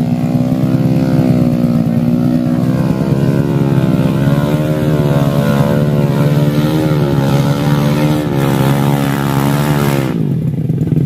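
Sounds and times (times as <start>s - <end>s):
motorcycle engine straining: 0.0s - 11.0s.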